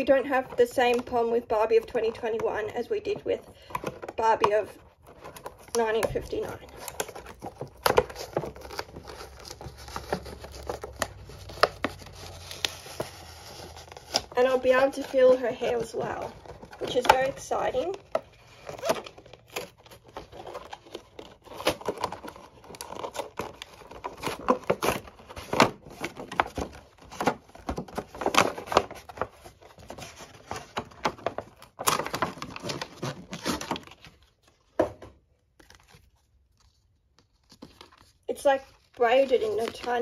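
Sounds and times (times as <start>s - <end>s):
plastic packaging crinkling and tearing: 3.6s - 34.8s, 35.4s - 40.0s.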